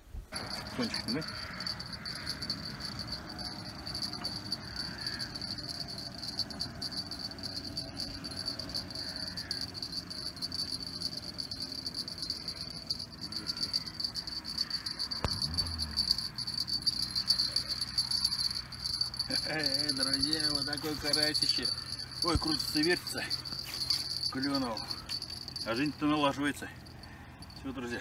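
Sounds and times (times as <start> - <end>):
insect trilling: 0.3 - 27.9.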